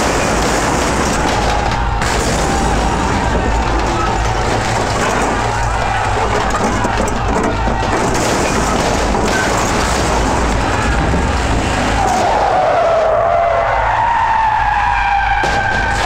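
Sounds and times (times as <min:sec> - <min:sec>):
car skidding on dirt: 0:00.0 - 0:16.0.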